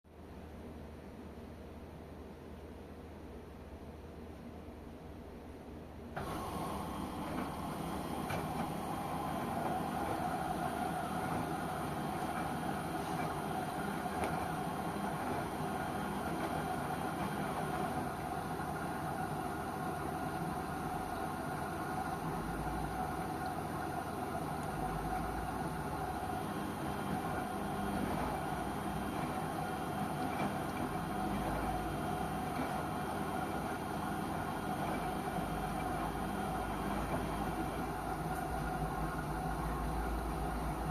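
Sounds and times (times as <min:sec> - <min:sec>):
washing machine hum and whine: 0:00.1 - 0:40.9.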